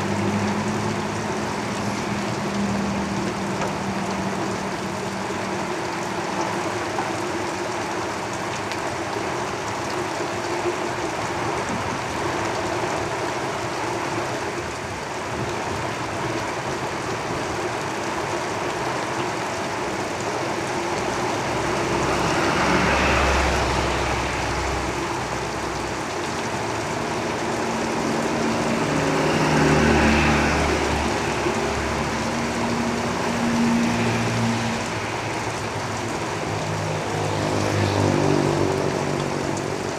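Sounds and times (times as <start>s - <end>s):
rain on a tin roof: 0.0s - 39.9s
vehicles rumbling past: 0.0s - 39.9s.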